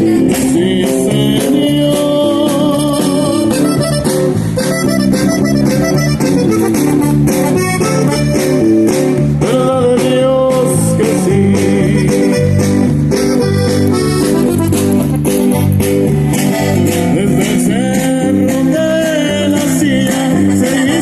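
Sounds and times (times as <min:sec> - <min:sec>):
accordion: 0:00.0 - 0:21.0
strummed guitars and bass: 0:00.0 - 0:21.0.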